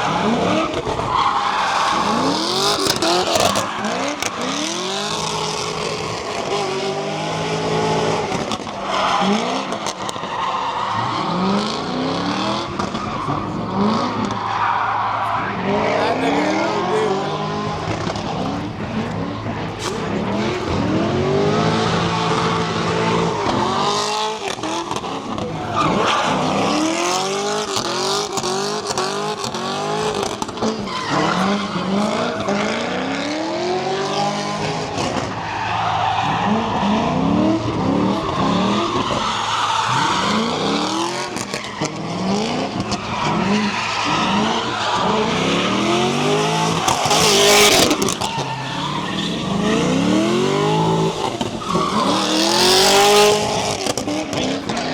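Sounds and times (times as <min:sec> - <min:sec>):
tyres squealing: 0:00.0 - 0:33.2, 0:34.2 - 0:54.9
car engine revving: 0:00.0 - 0:54.9.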